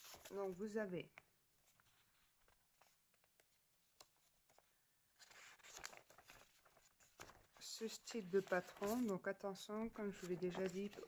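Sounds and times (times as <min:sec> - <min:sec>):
paper and plastic packaging rustling: 0:01.6 - 0:11.0.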